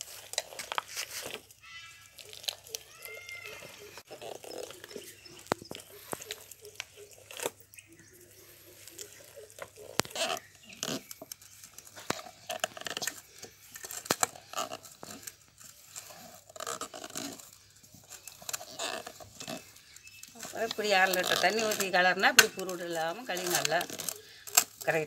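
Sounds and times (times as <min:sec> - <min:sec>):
wooden sticks scraping dough: 0:00.0 - 0:25.0.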